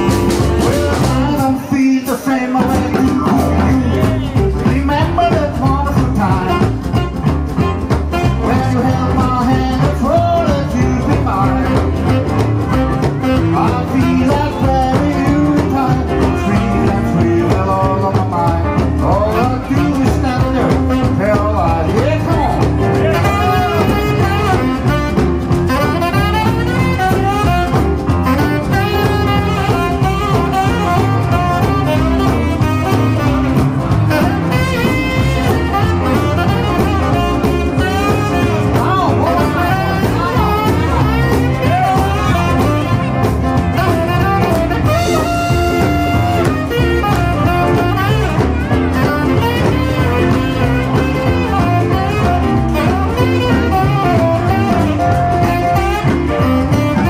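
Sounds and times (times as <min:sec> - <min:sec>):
drums: 0:00.0 - 0:57.0
electric guitar: 0:00.0 - 0:57.0
saxophone lead: 0:00.0 - 0:57.0
upright bass: 0:00.0 - 0:57.0.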